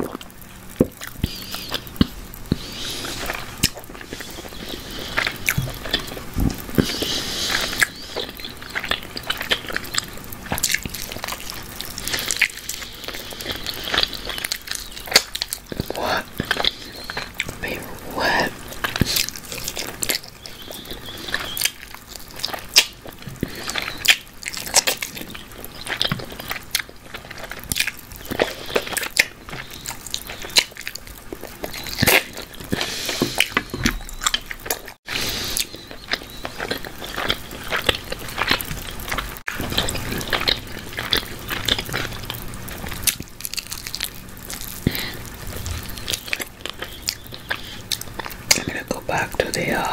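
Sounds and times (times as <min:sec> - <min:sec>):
chewing and lip-smacking: 0:00.0 - 0:49.9.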